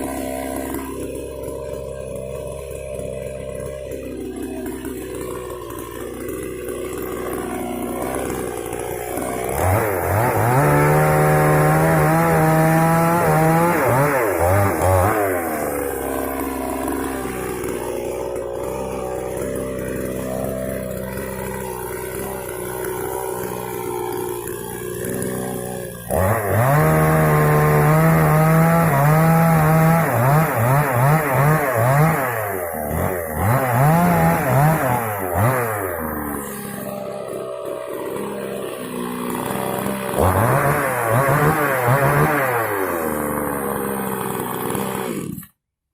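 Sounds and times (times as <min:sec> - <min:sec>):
chainsaw revving and idling: 0:00.0 - 0:45.7.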